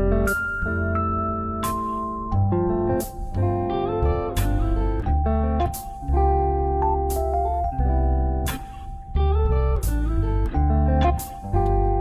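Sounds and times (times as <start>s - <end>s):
guitar instrumental music: 0.0s - 12.0s.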